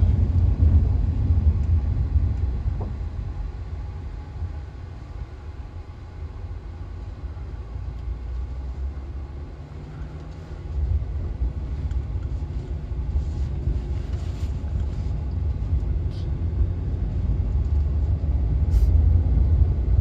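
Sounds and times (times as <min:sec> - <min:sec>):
car driving on dirt track: 0:00.0 - 0:20.0.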